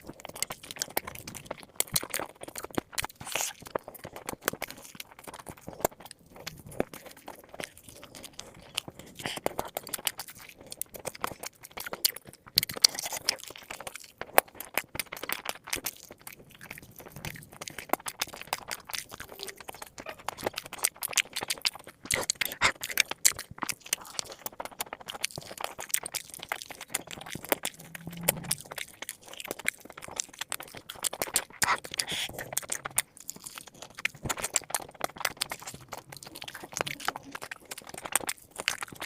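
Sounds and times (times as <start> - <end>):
crunchy chewing: 0.0 - 39.0.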